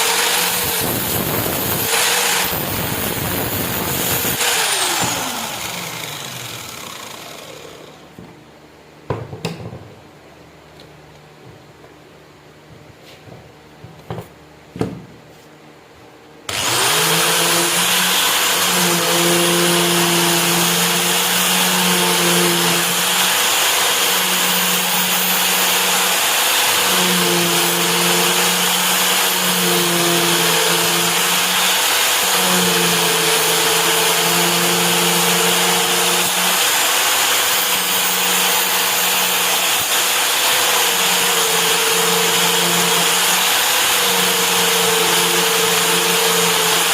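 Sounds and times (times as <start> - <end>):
electric grinder running: 0.0 - 8.1, 16.5 - 46.9.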